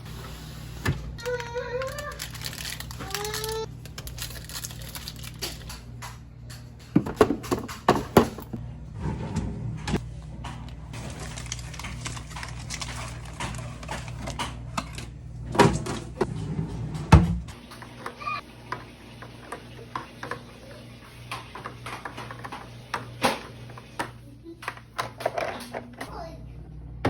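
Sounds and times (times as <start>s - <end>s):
groceries knocking and clattering: 0.9s - 8.6s, 9.8s - 26.1s.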